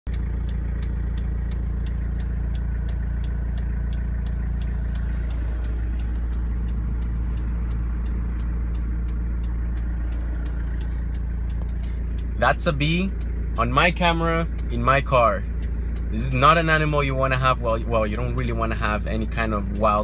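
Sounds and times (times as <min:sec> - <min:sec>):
car engine humming: 0:00.0 - 0:20.0
fast even ticking: 0:00.1 - 0:20.0.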